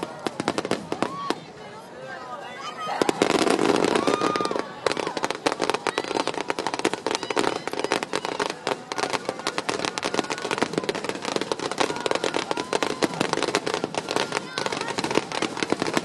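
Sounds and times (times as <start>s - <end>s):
fireworks bursting: 0.0s - 1.6s, 2.8s - 16.0s.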